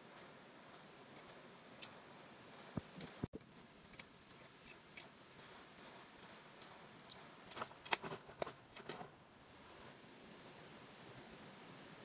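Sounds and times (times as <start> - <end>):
faint steady background: 0.0 - 12.0.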